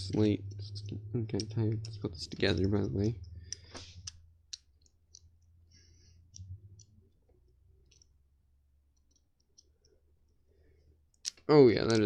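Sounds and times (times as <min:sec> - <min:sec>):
faint plastic and metal clicks: 0:00.0 - 0:05.5, 0:06.3 - 0:08.2, 0:08.9 - 0:10.4, 0:11.1 - 0:12.0.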